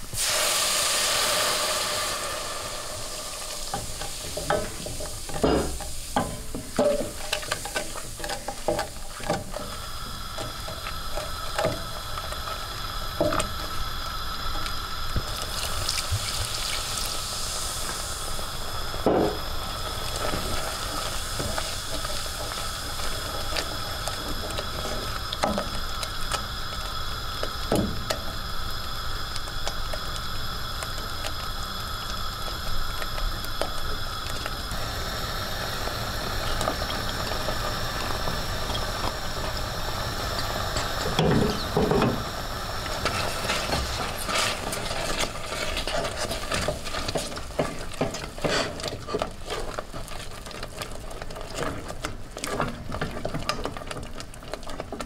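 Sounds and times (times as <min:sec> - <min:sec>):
mixture sizzling in a saucepan: 0:00.0 - 0:55.0
steady hiss: 0:00.0 - 0:55.0.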